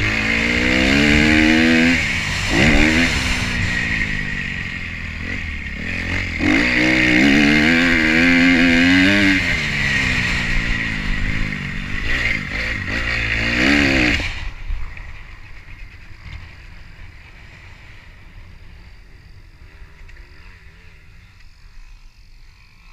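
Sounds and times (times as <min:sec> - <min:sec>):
motorcycle engine running unevenly: 0:00.0 - 0:21.4.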